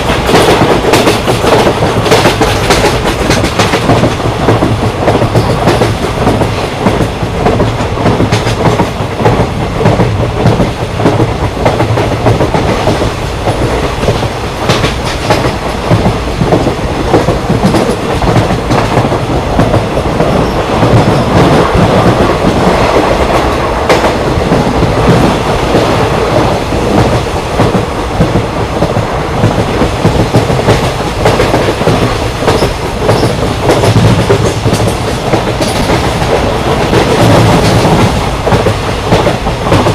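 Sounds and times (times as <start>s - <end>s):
train coach rumble: 0.0s - 39.9s
train wheels clacking over rail joints: 0.0s - 39.9s.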